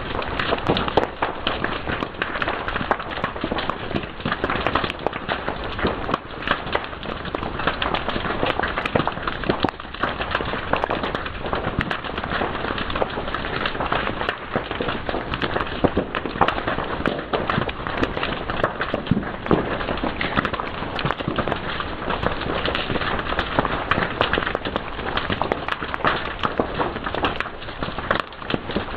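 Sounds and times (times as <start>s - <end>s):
fire crackling and popping: 0.0s - 28.9s.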